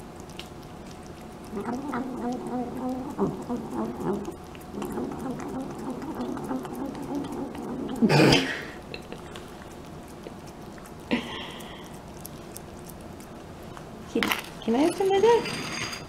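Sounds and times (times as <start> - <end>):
chewing clicks: 0.0 - 8.1, 8.8 - 15.0
cat vocalizing while eating: 0.0 - 14.1.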